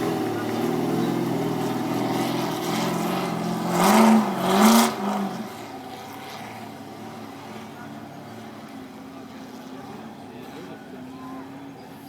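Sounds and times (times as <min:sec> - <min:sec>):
buggy engine revving: 0:00.0 - 0:11.8.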